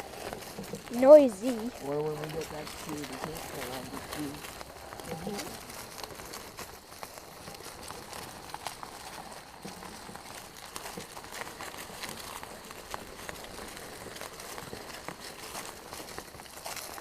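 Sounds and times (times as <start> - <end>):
footsteps crunching on path: 0.0 - 17.0.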